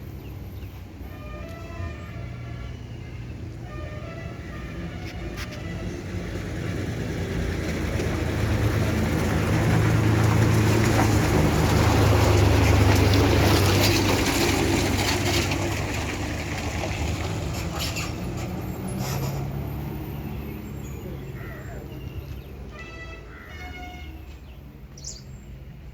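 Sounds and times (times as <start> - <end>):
heavy vehicle engine passing: 0.0 - 23.2
road noise: 0.0 - 25.9.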